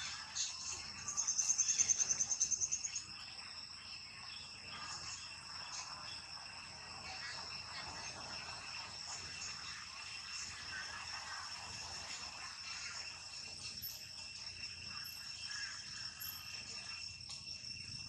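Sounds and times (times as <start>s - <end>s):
insects droning high-pitched: 0.0s - 18.0s
rapid pulsing insect trill: 0.0s - 18.0s.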